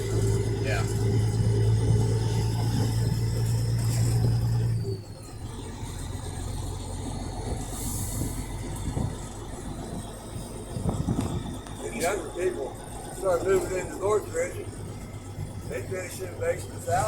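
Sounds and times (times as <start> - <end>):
road rumble: 0.0 - 17.0
truck engine humming: 0.0 - 17.0.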